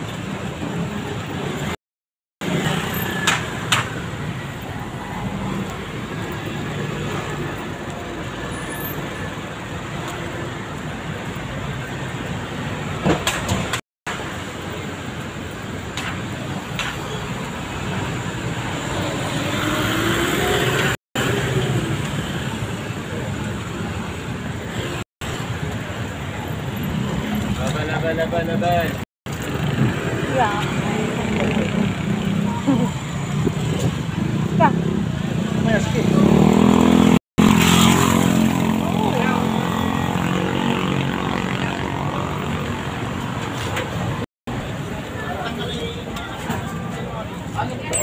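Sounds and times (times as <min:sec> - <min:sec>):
road traffic passing: 0:02.4 - 0:48.0.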